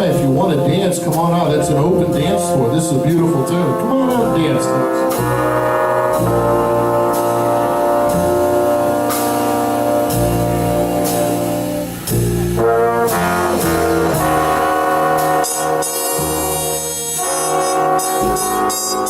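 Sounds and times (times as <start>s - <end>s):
brass band ballad: 0.0s - 19.0s.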